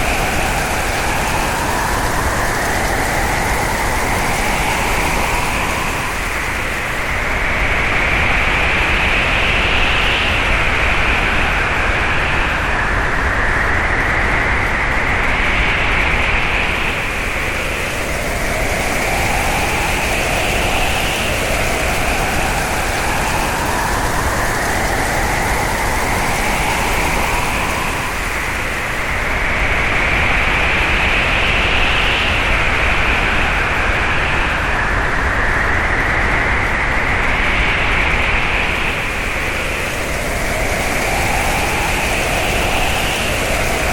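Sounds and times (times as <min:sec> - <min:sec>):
strong whistling wind: 0:00.0 - 0:43.9.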